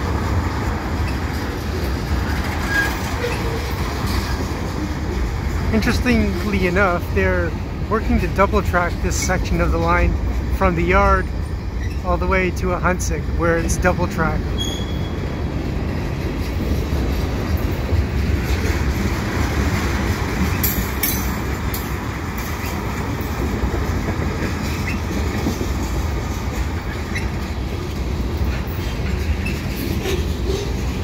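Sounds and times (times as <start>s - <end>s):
steel wheels rumbling on rail: 0.0s - 31.0s.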